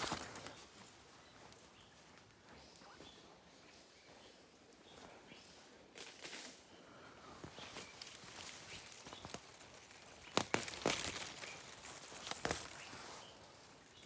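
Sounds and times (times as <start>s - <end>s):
undergrowth rustling: 0.0s - 14.0s.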